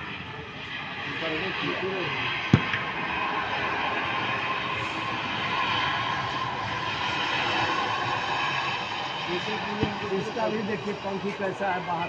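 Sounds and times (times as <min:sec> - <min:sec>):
distant jet engines rushing: 0:00.0 - 0:12.0.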